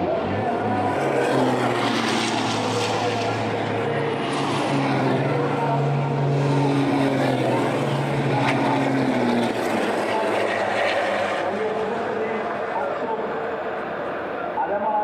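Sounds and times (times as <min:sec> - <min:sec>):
truck diesel engines passing: 0:00.0 - 0:15.0.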